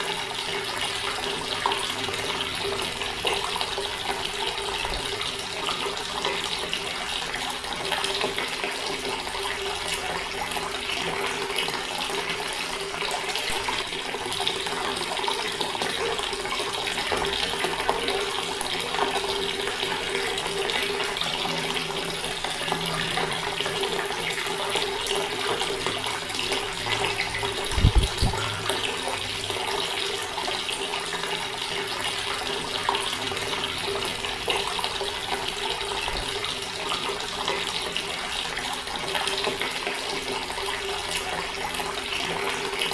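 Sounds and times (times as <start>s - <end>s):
water running from a tap: 0.0s - 42.9s.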